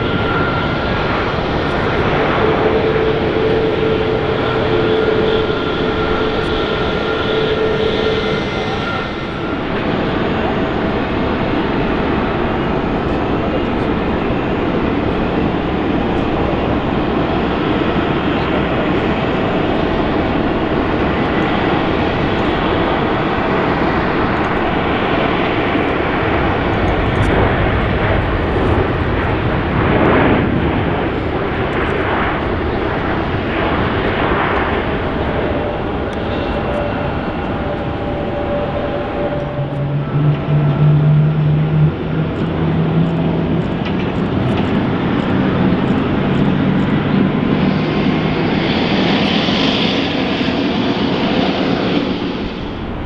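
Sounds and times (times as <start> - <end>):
jet airliner passing: 0.0 - 53.0.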